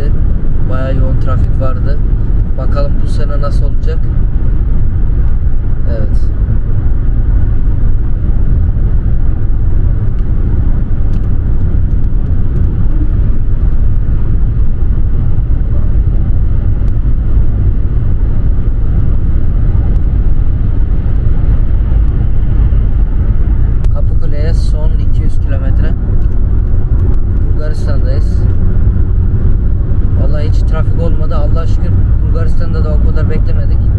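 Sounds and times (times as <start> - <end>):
car road and engine rumble: 0.0 - 33.9.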